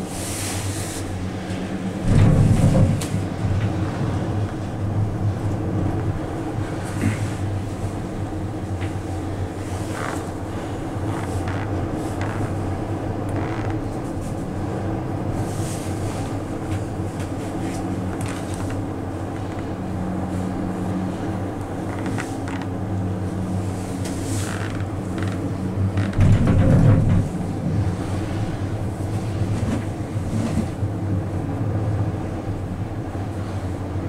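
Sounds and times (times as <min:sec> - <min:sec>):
gondola cabin hum and rumble: 0:00.0 - 0:34.0
loud rumble: 0:01.0 - 0:33.5.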